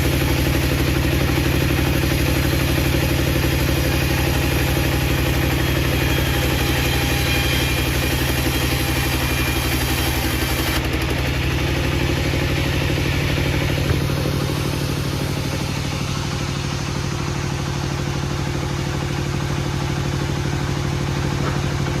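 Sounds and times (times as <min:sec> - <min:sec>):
engine running with fast pulse: 0:00.0 - 0:22.0.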